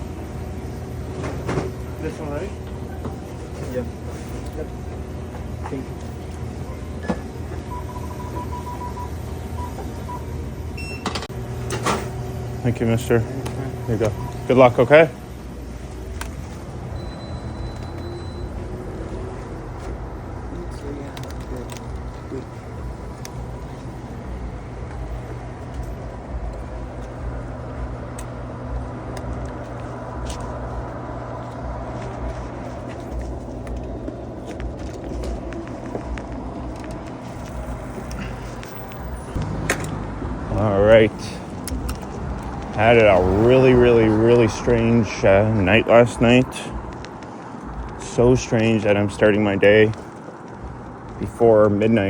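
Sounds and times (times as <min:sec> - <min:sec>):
city traffic rumble: 0:00.0 - 0:52.0.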